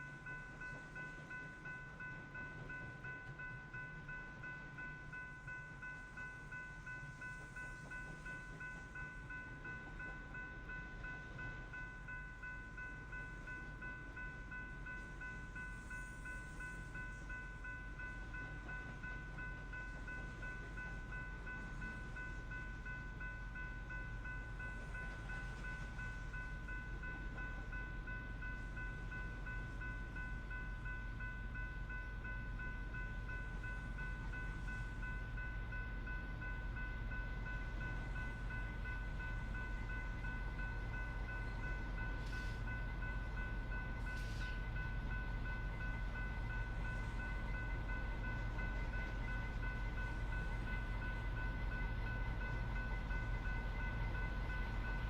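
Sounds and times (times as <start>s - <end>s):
high pulsing ringing tone: 0.0s - 55.0s
train rumbling past: 4.1s - 55.0s.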